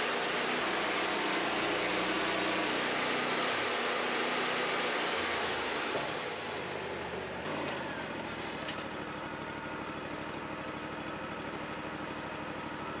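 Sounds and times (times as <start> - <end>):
sawmill engine running: 0.0 - 13.0.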